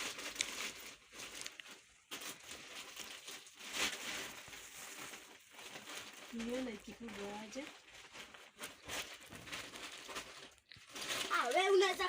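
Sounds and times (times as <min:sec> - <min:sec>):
faint rustling and crinkling: 0:00.0 - 0:12.0.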